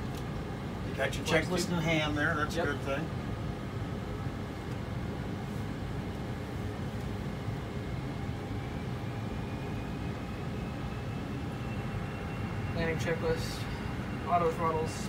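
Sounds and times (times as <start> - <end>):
cockpit rumble and hiss: 0.0 - 15.0
faint rising whine: 0.0 - 15.0.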